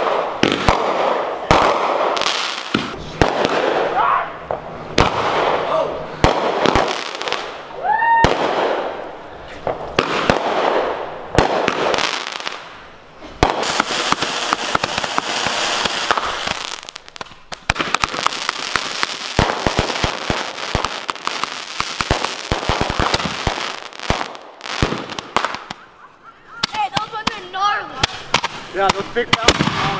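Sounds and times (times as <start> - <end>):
firework bangs: 0.0 - 26.0, 26.6 - 29.9
firework crackling and pops: 0.0 - 29.9.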